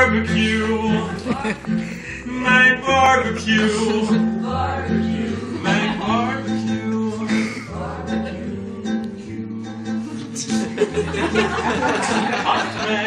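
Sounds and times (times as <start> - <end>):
acoustic guitar strummed chords: 0.0 - 12.8.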